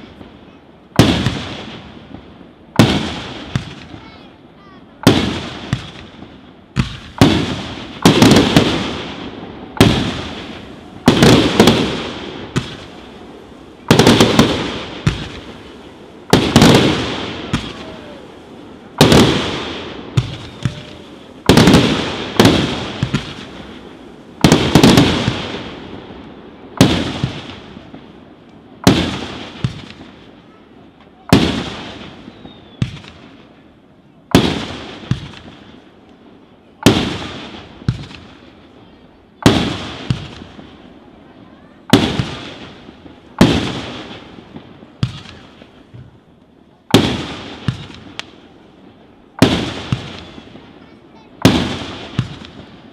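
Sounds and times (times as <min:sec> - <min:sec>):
fireworks bursting with echo: 0:00.0 - 0:52.9.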